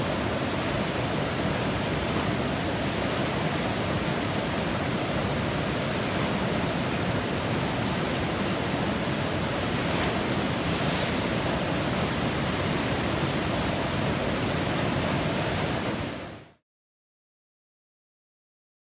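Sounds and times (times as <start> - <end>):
river rapids roaring: 0.0 - 16.5.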